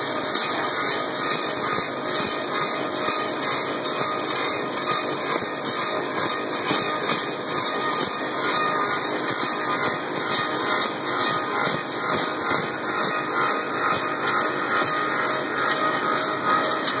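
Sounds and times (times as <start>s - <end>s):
lathe cutting wood: 0.0s - 17.0s.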